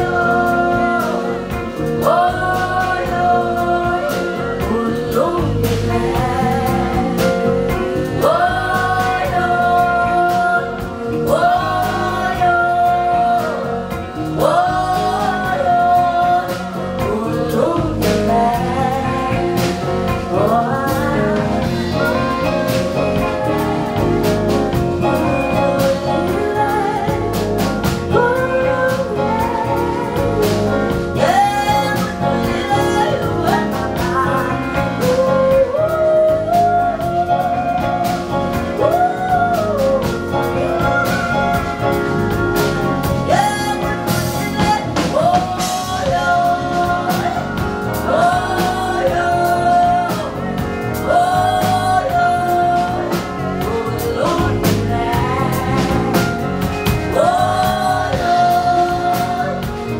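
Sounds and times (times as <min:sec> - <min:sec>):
drums and bass: 0:00.0 - 0:59.9
woman singing: 0:00.0 - 0:59.9.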